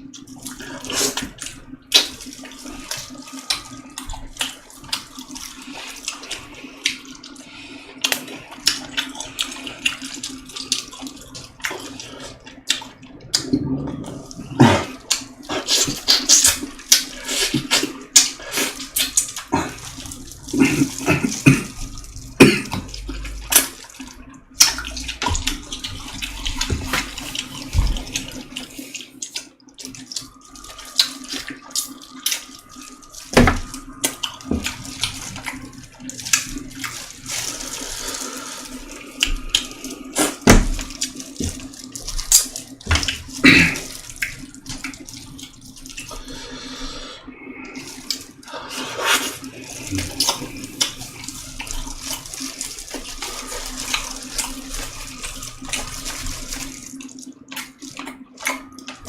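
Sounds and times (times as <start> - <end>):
person chewing and eating: 0.0 - 59.0.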